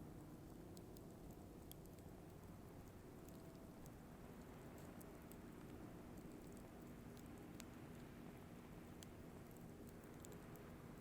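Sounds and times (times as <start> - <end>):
fire crackles and ticks: 0.0 - 11.0.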